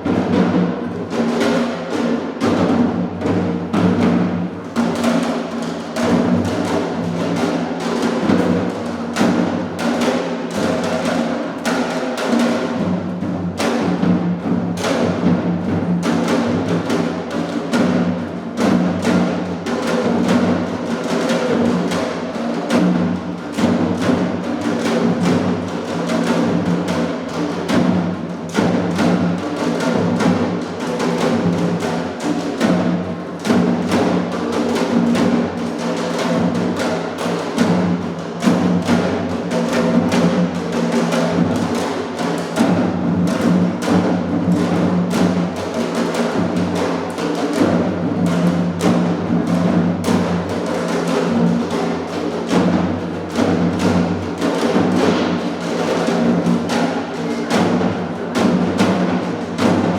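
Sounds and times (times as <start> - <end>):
fast dense drumming: 0.0 - 59.9.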